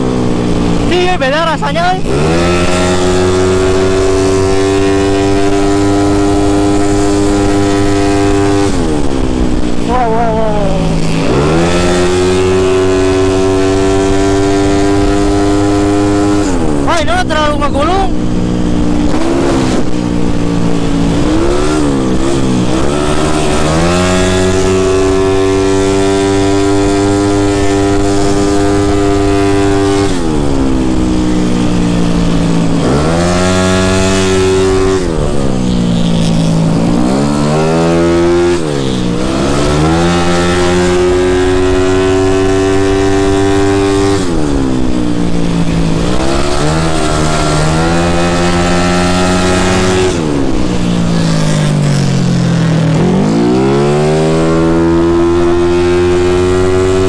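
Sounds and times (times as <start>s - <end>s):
scooter engine at full throttle: 0.0s - 57.0s.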